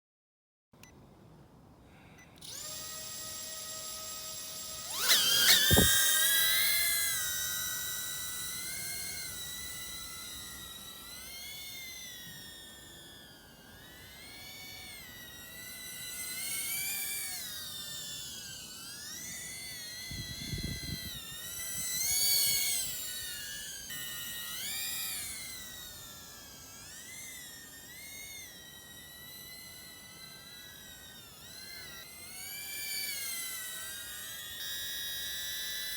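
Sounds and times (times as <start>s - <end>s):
drone motors whining: 2.0s - 35.9s.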